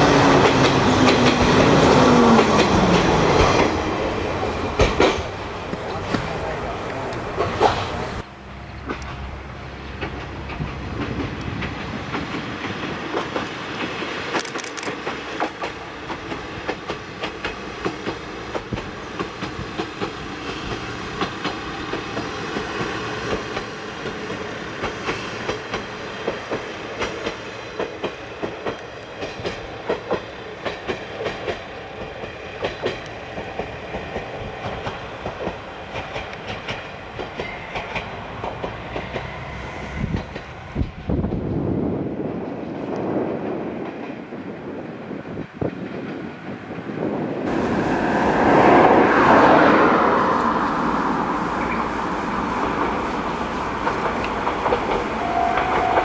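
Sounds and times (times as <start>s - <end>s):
wheels clacking over rail joints: 0.0s - 41.0s, 45.5s - 56.0s
railcar running along track: 0.0s - 56.0s.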